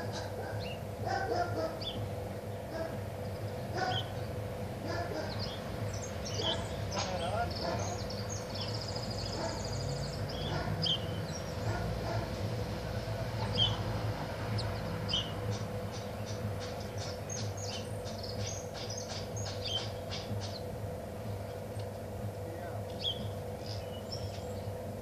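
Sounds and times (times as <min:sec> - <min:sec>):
songbird chirping and trilling: 0:00.0 - 0:25.0
steady low hum: 0:00.0 - 0:25.0.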